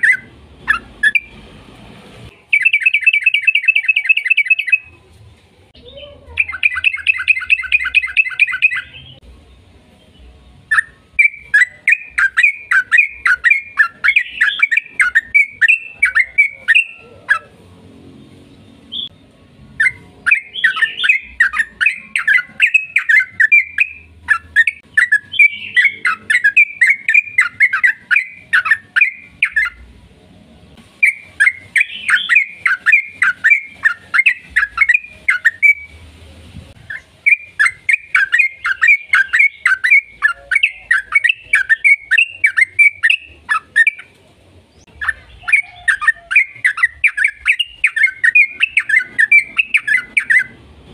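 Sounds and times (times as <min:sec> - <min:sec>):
bird singing chattering phrases: 0:00.0 - 0:01.4, 0:02.3 - 0:05.0, 0:05.8 - 0:09.2, 0:10.7 - 0:17.6, 0:19.8 - 0:29.9, 0:31.0 - 0:36.0, 0:36.8 - 0:50.6.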